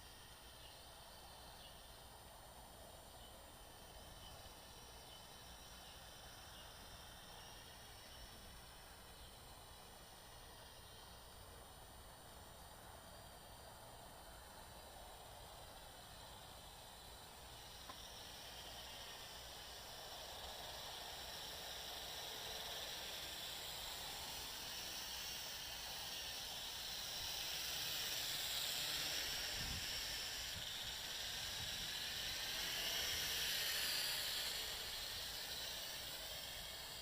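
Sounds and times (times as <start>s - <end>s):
quadcopter propellers whining: 0.0s - 37.0s.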